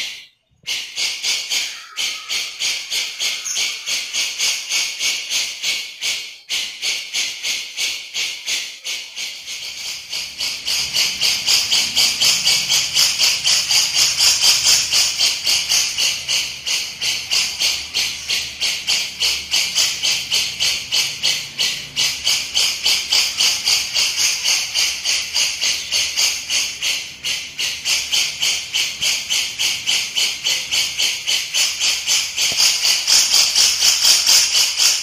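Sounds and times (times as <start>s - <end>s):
bird harsh rattling chatter: 0.0s - 35.0s.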